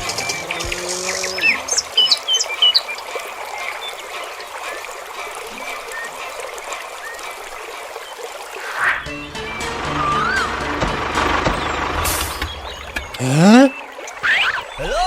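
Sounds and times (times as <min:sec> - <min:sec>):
birds chirping: 0:00.0 - 0:10.5, 0:11.4 - 0:15.0
trickling water: 0:00.0 - 0:15.0.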